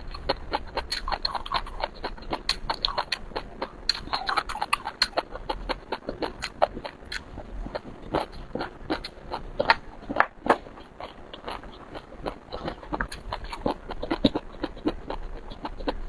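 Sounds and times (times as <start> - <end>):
biting and chewing: 0.0 - 16.0.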